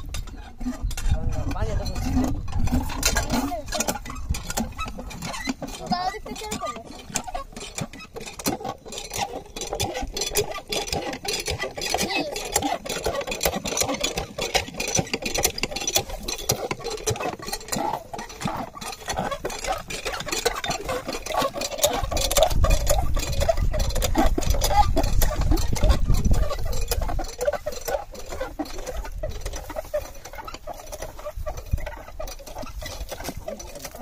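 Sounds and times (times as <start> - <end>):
water pump engine clattering: 0.0 - 34.0.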